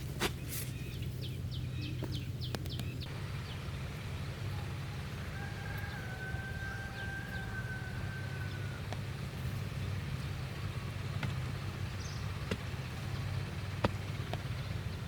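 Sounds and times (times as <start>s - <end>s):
bird chirping: 0.3s - 15.0s
low hum: 0.8s - 15.0s.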